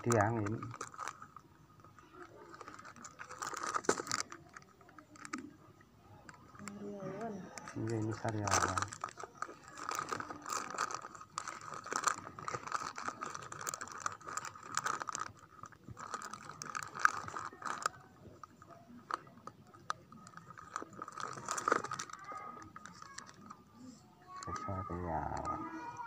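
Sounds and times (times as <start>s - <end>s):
plastic packets crinkling: 0.0s - 5.6s, 6.3s - 26.0s.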